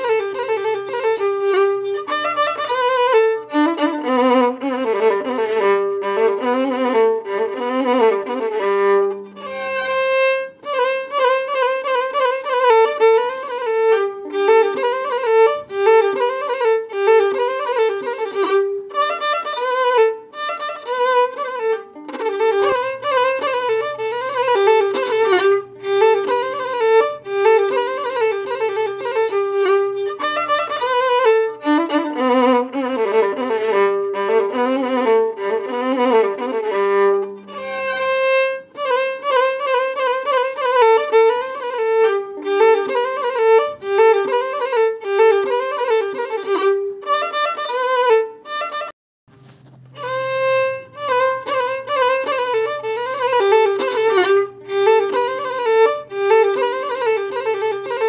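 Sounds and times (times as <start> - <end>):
violin playing fast melody: 0.0 - 58.0.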